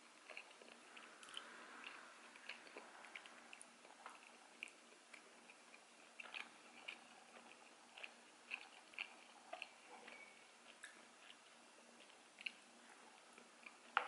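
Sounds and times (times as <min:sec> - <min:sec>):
wet mouth chewing smacks: 0:00.2 - 0:14.0.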